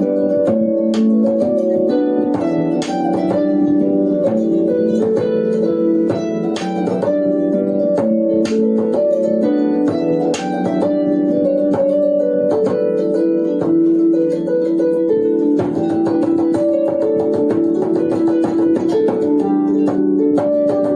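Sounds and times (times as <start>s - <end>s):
lyre harp plucked notes: 0.0s - 20.9s.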